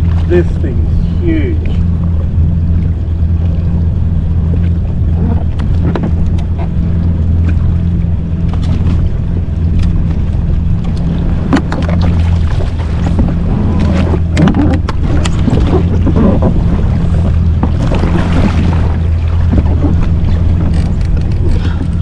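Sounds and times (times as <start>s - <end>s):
jet ski engine idling: 0.0s - 22.0s.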